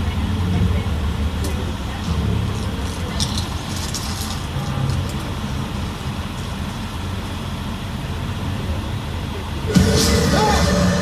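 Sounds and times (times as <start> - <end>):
tram engine and wheels rumbling: 0.0 - 11.0.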